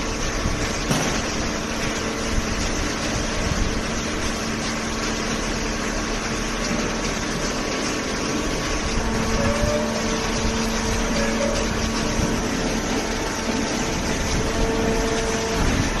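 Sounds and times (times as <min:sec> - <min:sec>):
baler machine humming and whirring: 0:00.0 - 0:16.0.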